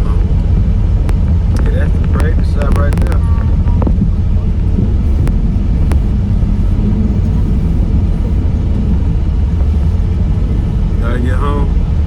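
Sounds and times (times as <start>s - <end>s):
car rumbling on the move: 0.0s - 12.0s.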